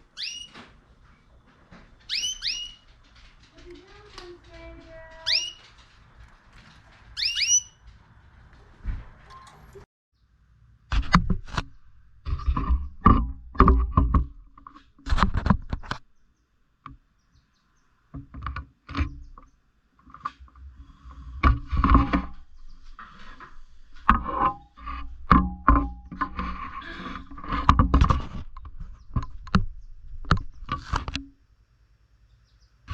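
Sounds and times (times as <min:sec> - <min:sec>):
birds pecking in cage: 0:00.0 - 0:09.4, 0:11.0 - 0:31.4
knocks scrapes and rustles: 0:00.0 - 0:09.9, 0:10.9 - 0:16.1, 0:18.1 - 0:31.4.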